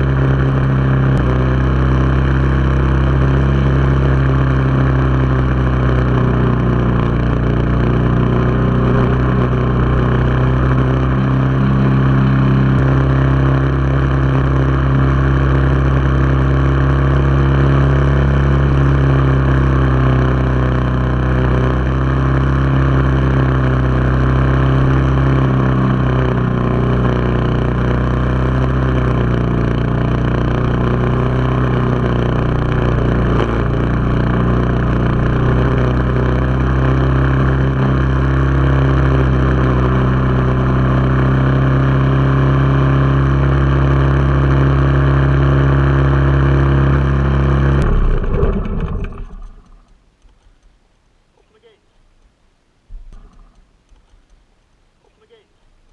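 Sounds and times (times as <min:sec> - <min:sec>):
lawn mower engine running: 0:00.0 - 0:50.6.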